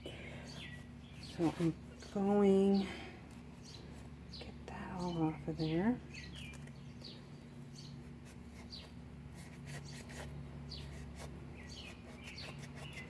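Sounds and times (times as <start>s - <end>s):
birds chirping: 0.0s - 9.0s, 9.7s - 13.0s
steady low hum: 0.0s - 13.0s.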